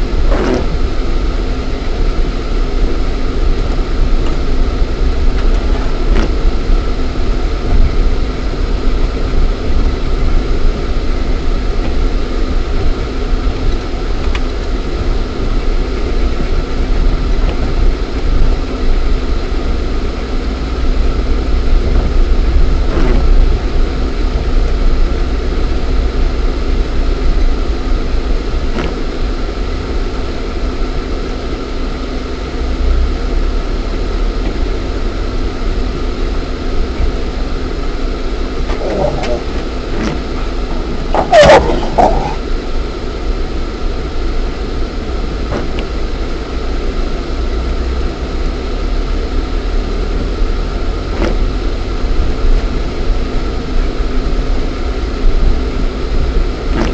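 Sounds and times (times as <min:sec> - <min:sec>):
car engine rumble from cabin: 0:00.0 - 0:56.9.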